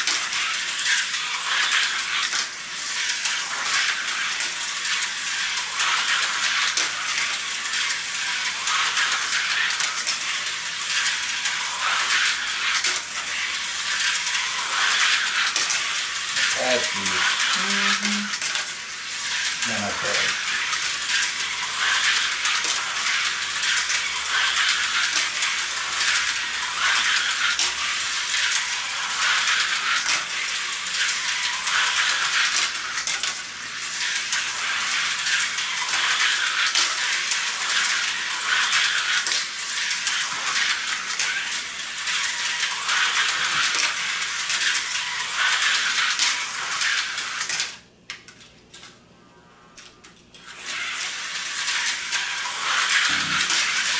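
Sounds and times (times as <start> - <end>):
slot car motors whirring: 0.0 - 47.9, 48.8 - 53.9
wheels rattling on plastic track: 0.0 - 49.0, 49.8 - 53.9.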